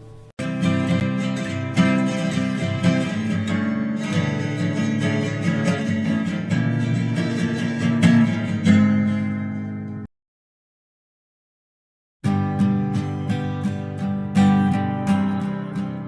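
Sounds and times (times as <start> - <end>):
acoustic guitar playing: 0.0 - 10.1, 12.2 - 16.0.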